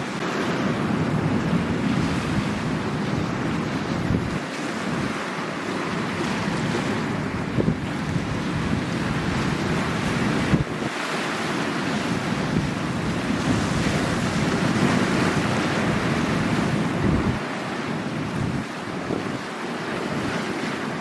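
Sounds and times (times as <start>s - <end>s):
sea waves washing on shore: 0.0s - 21.0s
wind buffeting microphone: 0.1s - 21.0s.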